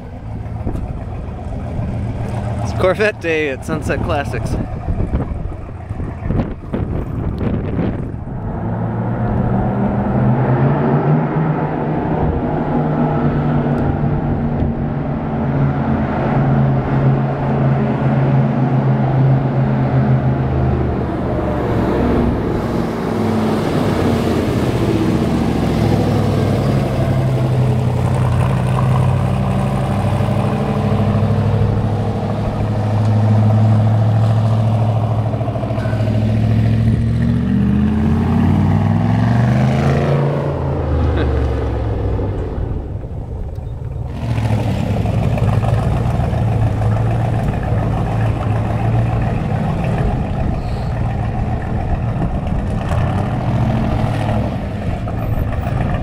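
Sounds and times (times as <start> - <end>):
car engine running and revving: 0.0 - 56.0.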